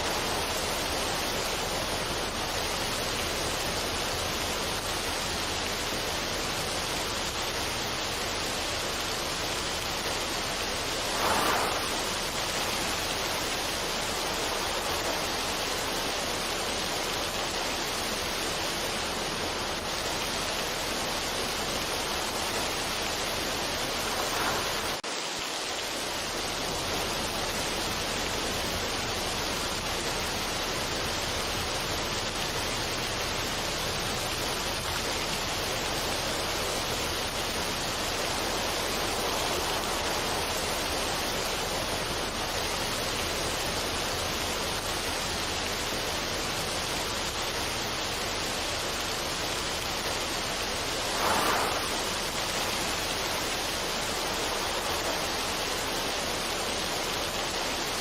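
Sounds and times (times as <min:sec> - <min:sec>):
water-like rushing noise: 0:00.0 - 0:58.0.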